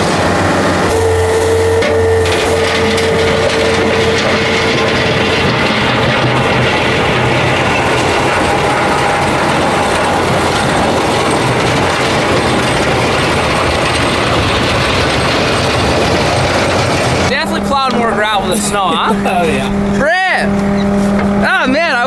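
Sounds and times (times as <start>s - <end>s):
tracks clattering: 0.0s - 21.4s
diesel engine running: 0.0s - 22.0s.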